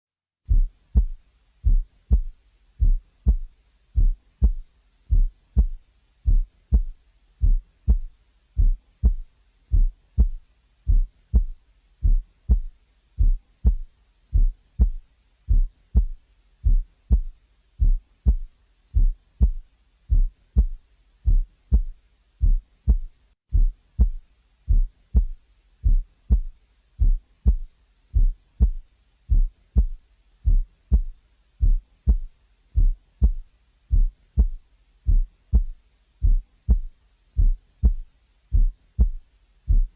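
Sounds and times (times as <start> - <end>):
heartbeat sounds: 0.5 - 39.9.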